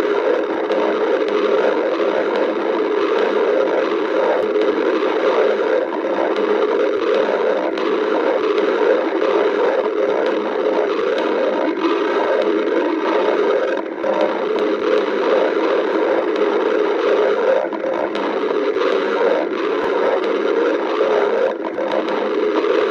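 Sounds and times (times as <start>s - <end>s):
stomach growling: 0.0s - 22.9s.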